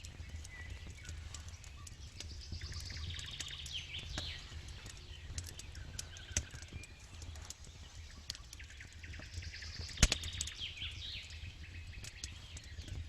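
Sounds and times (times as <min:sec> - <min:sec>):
birds chirping: 0:00.0 - 0:13.0
campfire crackling and popping: 0:00.0 - 0:13.0.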